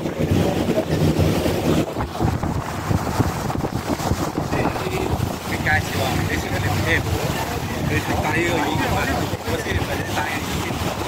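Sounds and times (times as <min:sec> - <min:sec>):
boat engine hum: 0:00.0 - 0:11.0
water rushing along hull: 0:00.0 - 0:11.0
wind buffeting microphone: 0:00.0 - 0:11.0.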